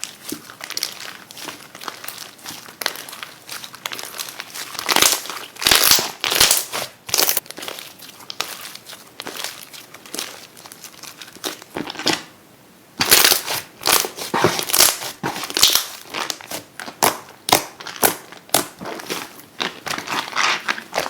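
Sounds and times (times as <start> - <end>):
slime squelching and crackling: 0.0 - 12.3, 13.0 - 21.0.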